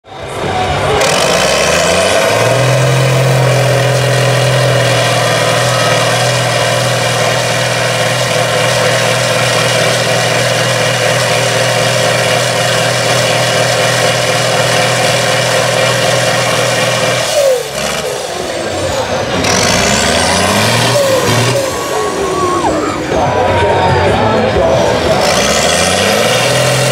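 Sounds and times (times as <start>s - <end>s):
diesel engine at high revs: 0.0s - 26.9s.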